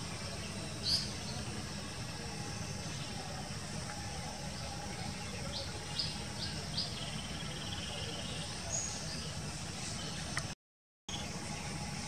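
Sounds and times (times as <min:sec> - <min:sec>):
small birds calling: 0:00.0 - 0:10.5.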